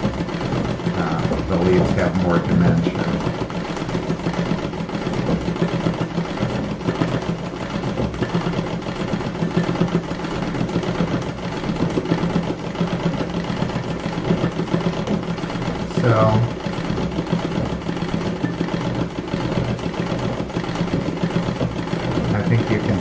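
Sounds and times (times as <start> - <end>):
sewing machine stitching: 0.0 - 23.0.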